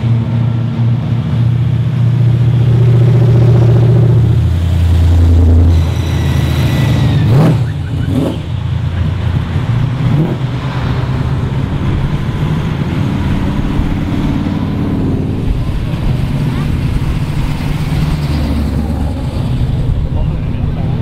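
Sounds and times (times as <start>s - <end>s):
car engines rumbling past: 0.0s - 21.0s
engine revs rising in pitch: 2.5s - 21.0s.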